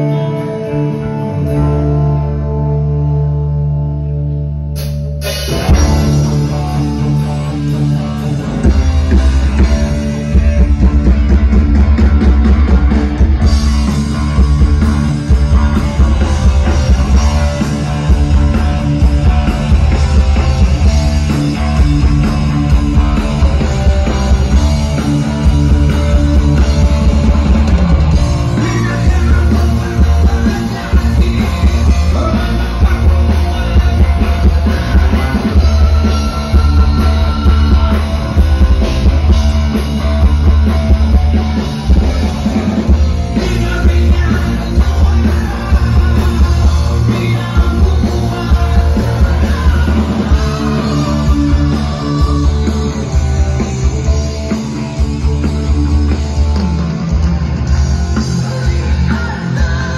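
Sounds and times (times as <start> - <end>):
heavy bass and drums: 0.0 - 59.9
rock band playing: 0.0 - 59.9.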